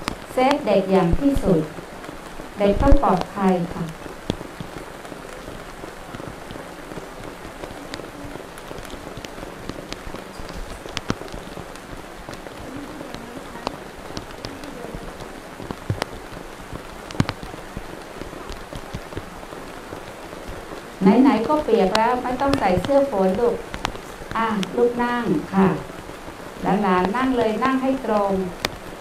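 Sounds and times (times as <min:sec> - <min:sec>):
rain hissing: 0:00.0 - 0:29.0
drops tapping: 0:02.6 - 0:25.9, 0:26.6 - 0:28.9.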